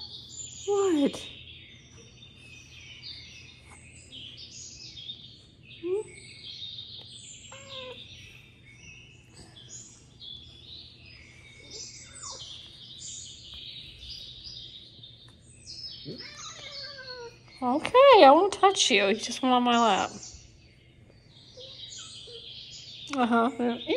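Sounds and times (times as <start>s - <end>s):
lower-pitched bird calls: 0.0s - 18.4s, 19.8s - 23.9s
small birds chirping: 0.0s - 23.9s.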